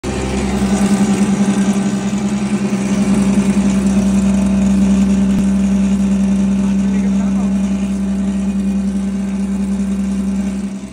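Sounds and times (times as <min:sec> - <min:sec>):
grinding machine humming: 0:00.0 - 0:10.9.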